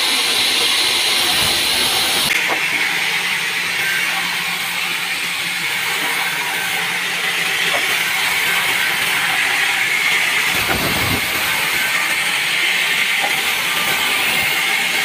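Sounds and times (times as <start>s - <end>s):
band saw cutting wood: 0.0s - 15.0s.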